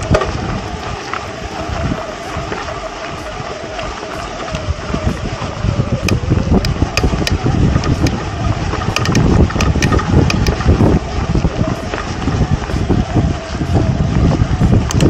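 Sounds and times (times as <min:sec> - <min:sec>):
bike clicks and rattles: 0:00.0 - 0:15.0
bike tyre rumble on dirt: 0:00.0 - 0:15.0
wind buffeting microphone: 0:00.0 - 0:15.0.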